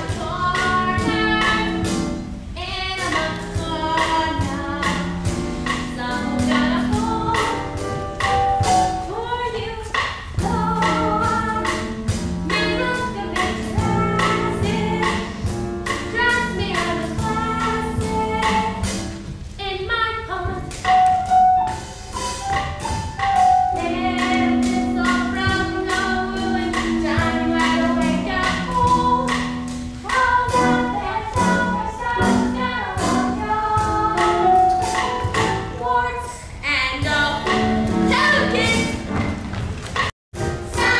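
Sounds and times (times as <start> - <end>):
instrumental accompaniment with beat: 0.0 - 40.9.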